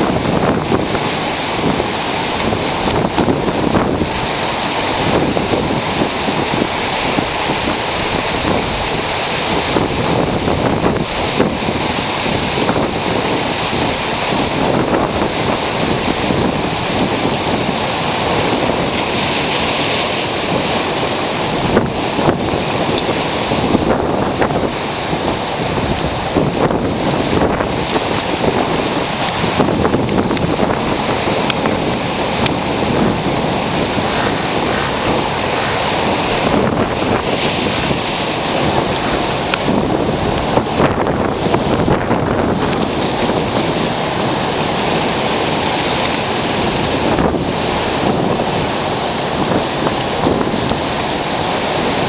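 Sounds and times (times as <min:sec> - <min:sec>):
ocean surf breaking: 0:00.0 - 0:52.0.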